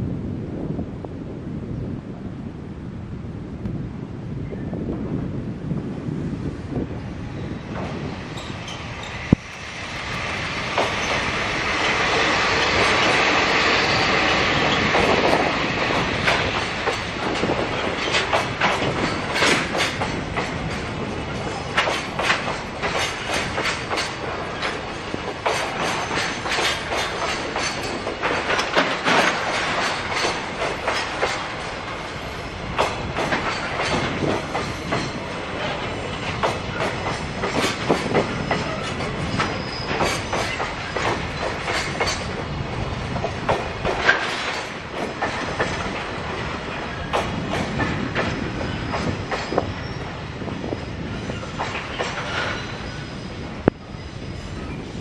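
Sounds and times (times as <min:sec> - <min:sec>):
diesel locomotive passing: 0:00.1 - 0:55.0
wheels clicking over rail joints: 0:07.8 - 0:53.8.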